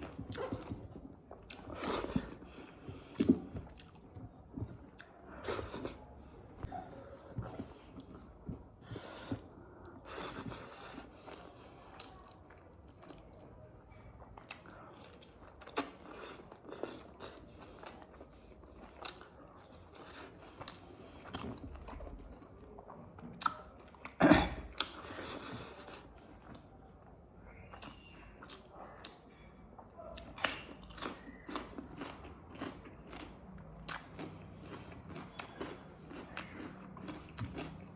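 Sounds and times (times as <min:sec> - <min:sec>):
person chewing food: 0:00.0 - 0:37.9.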